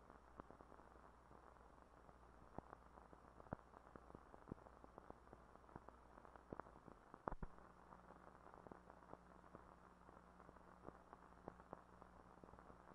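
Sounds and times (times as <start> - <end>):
faint hiss: 0.0 - 12.9.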